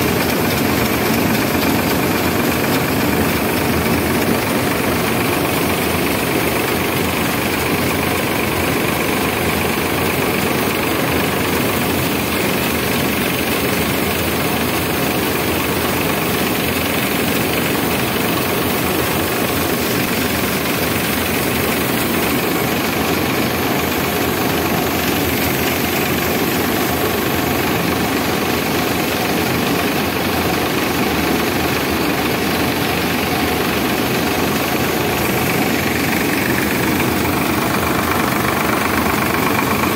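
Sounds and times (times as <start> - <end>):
tractor diesel engine and threshing drum: 0.0 - 39.9.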